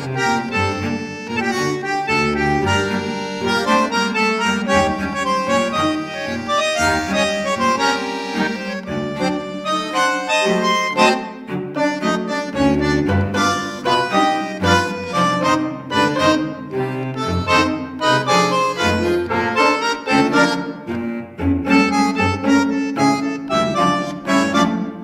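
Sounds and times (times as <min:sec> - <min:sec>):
instrumental music with bass line: 0:00.0 - 0:25.0.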